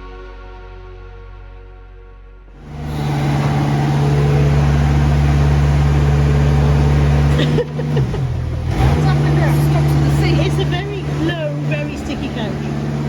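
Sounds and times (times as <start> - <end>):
low engine drone with rushing: 2.5 - 13.0.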